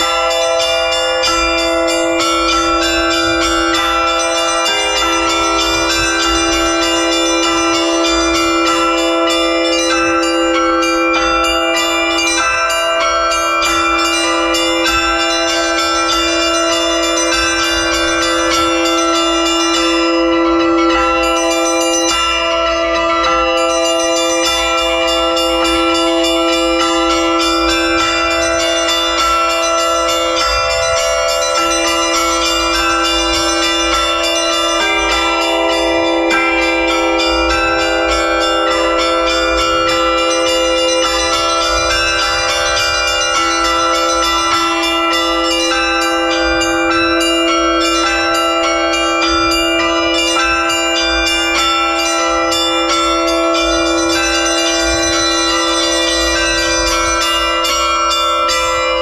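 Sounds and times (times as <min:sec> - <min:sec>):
church bells ringing: 0:00.0 - 0:59.0
steady low bell tone: 0:00.0 - 0:59.0.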